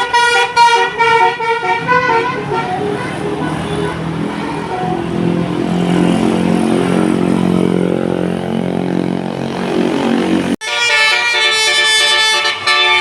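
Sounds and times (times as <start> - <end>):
bus diesel engine passing: 0.0 - 13.0.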